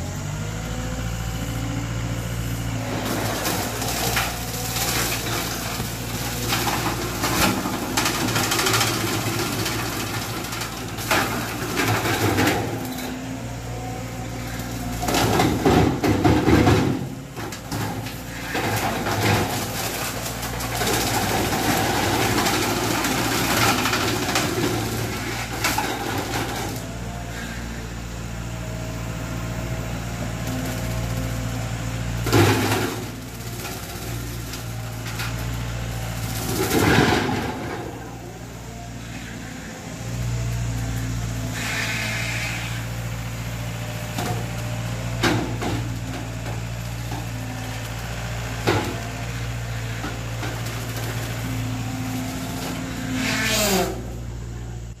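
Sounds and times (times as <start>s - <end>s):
loader diesel engine running: 0.0s - 55.0s
brush cutter crashing and shredding: 2.7s - 27.6s, 30.4s - 38.2s, 40.2s - 54.2s.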